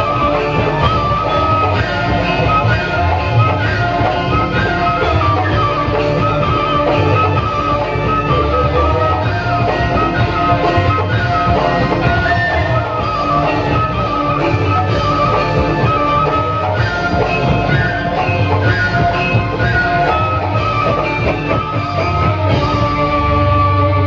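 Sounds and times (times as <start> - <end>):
instrumental melody: 0.0 - 24.0.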